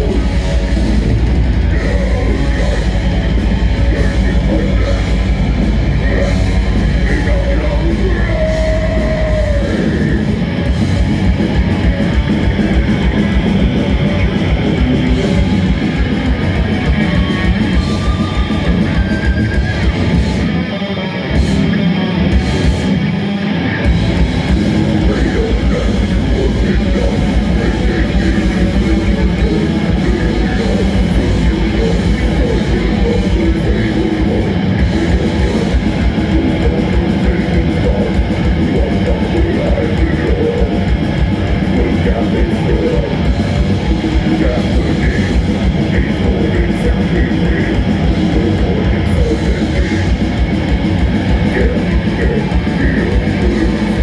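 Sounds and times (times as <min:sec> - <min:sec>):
drum kit: 0:00.0 - 0:23.1, 0:23.8 - 0:54.0
distorted electric guitars: 0:00.0 - 0:54.0.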